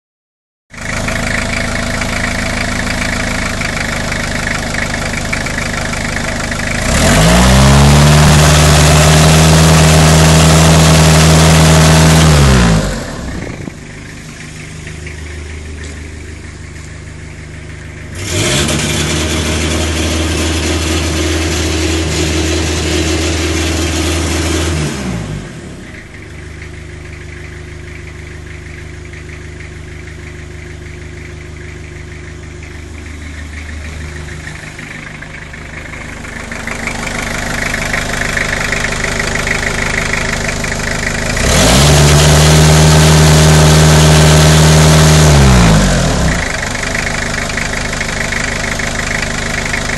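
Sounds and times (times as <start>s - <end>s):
van engine idling and revving: 0.7s - 49.9s.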